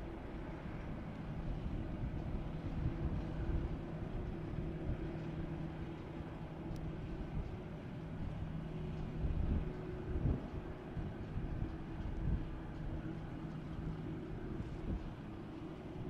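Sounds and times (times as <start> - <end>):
jet engines idling: 0.0 - 16.0.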